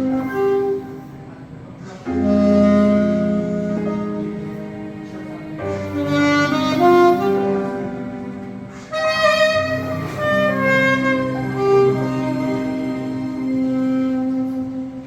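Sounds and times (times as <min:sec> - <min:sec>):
saxophone playing slow melody: 0:00.0 - 0:15.0
sustained accompaniment: 0:00.0 - 0:15.0.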